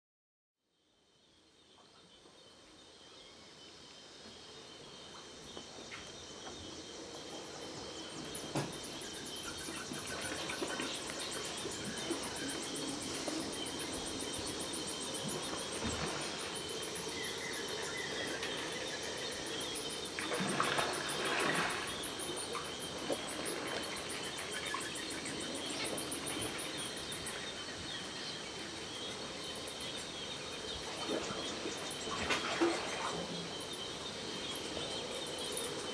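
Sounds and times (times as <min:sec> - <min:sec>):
steady high insect buzz: 0:02.8 - 0:32.6.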